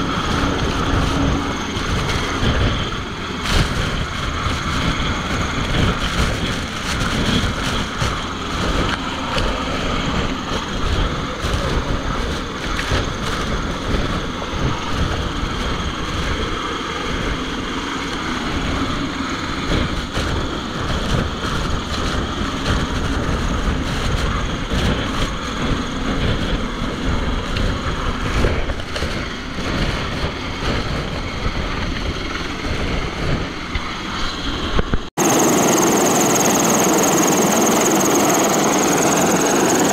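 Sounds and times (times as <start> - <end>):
boat engine running: 0.0 - 39.9
water noise: 0.0 - 39.9
wind: 0.0 - 39.9.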